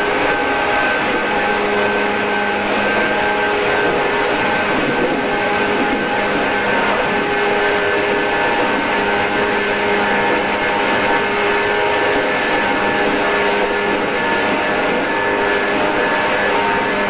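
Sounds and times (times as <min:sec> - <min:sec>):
electric train whine: 0:00.0 - 0:17.0
wheels rumbling on rail: 0:00.0 - 0:17.0.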